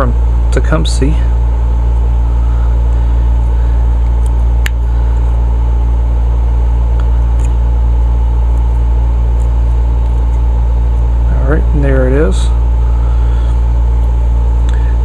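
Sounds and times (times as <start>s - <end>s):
loud mechanical hum: 0.0s - 15.0s.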